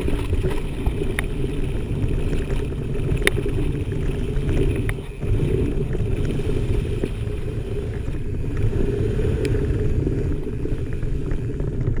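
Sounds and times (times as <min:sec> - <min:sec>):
bike tyres on dirt trail: 0:00.0 - 0:12.0.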